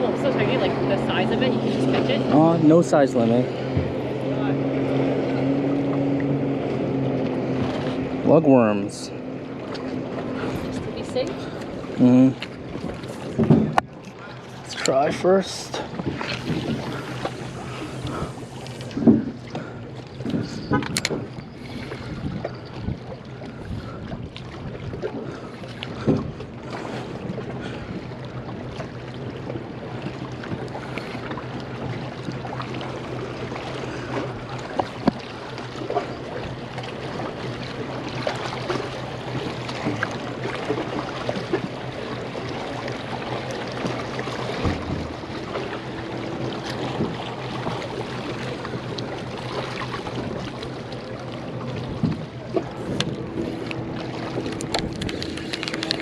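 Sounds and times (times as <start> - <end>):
boat motor humming: 0.0 - 56.0
wind: 0.0 - 56.0.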